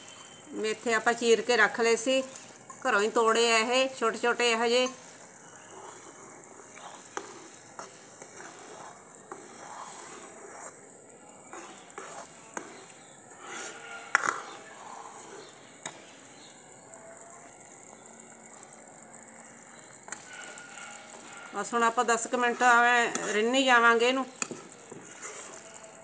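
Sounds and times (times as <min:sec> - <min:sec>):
ladle stirring and scraping pan: 0:00.0 - 0:26.0.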